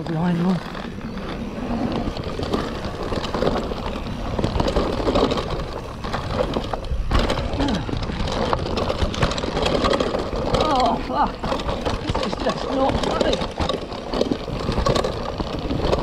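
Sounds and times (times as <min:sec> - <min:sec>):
bicycle drivetrain rattling: 0:00.0 - 0:16.0
bike tyres on loose dirt: 0:00.0 - 0:16.0
sharp clicks and knocks on bumps: 0:00.0 - 0:16.0.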